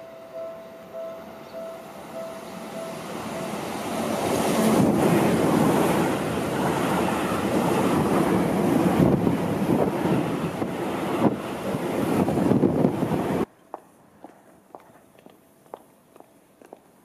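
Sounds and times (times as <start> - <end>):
train wheel and rail noise: 0.0 - 16.8.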